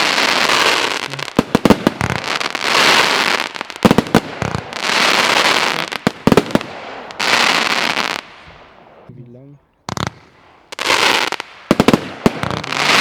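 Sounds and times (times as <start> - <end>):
firework rushing hiss: 0.0 - 8.7, 9.9 - 13.0
firework shots: 0.0 - 9.1, 9.9 - 13.0.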